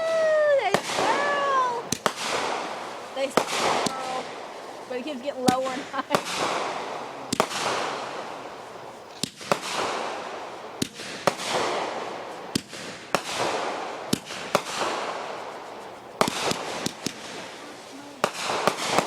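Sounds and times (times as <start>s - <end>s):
fireworks bangs: 0.0s - 19.0s
fireworks hiss: 0.0s - 19.0s.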